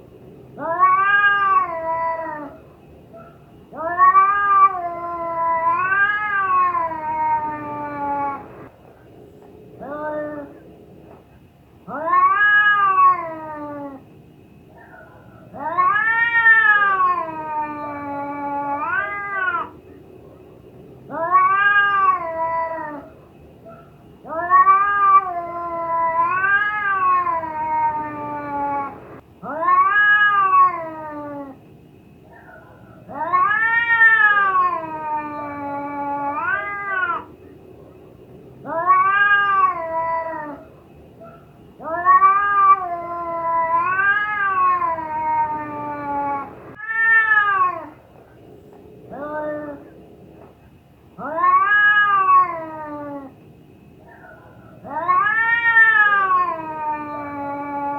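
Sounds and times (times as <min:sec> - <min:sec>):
cat yowling: 0:00.5 - 0:08.7, 0:09.8 - 0:10.6, 0:11.9 - 0:14.1, 0:14.8 - 0:19.8, 0:21.0 - 0:31.6, 0:32.3 - 0:37.4, 0:38.6 - 0:48.1, 0:49.0 - 0:50.0, 0:51.2 - 0:53.4, 0:54.0 - 0:57.9.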